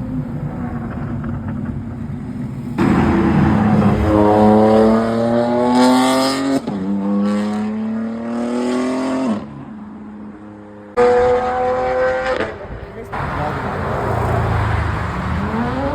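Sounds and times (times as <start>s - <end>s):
car engine accelerating: 0.2s - 9.4s, 11.0s - 15.9s.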